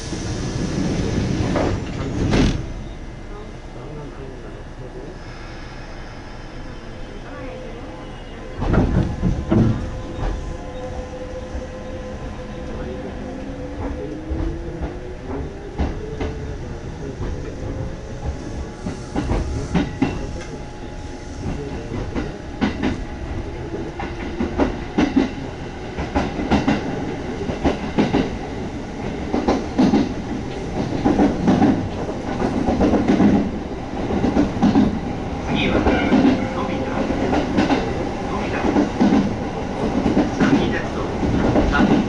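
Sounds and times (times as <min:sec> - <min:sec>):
train running rumble: 0:00.0 - 0:42.0.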